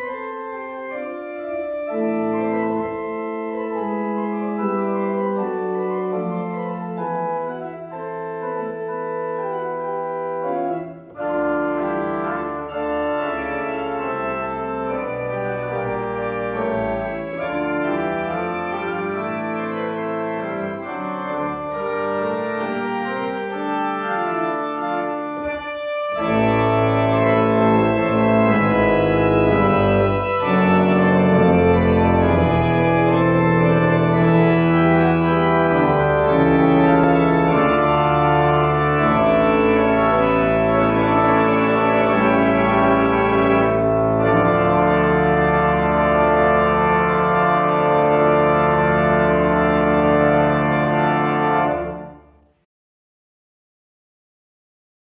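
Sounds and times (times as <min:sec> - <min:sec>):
church organ playing: 0:00.0 - 0:52.5.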